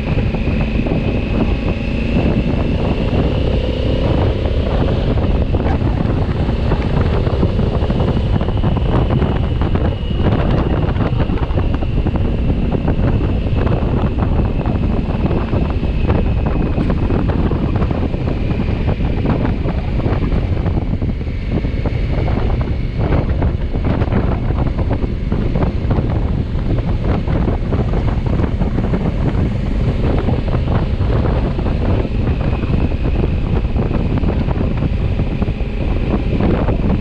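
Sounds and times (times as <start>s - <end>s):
wind buffeting on microphone: 0.0s - 37.0s.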